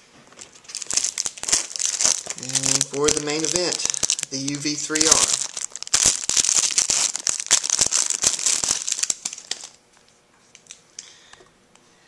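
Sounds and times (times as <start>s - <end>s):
plastic wrapping crinkling: 0.3s - 10.8s.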